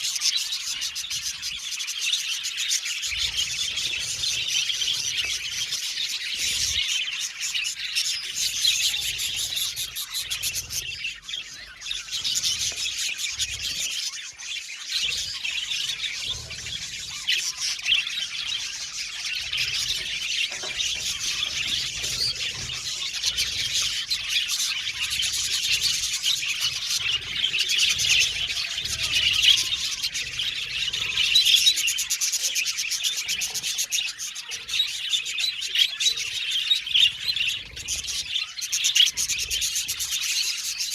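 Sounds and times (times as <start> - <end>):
flock of budgerigars chirping: 0.0 - 40.9.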